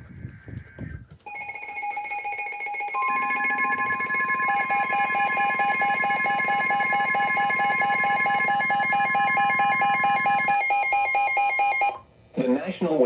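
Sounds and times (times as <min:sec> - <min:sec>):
fast repeating beep: 0:01.3 - 0:12.0
loud steady alarm tones: 0:01.3 - 0:12.0.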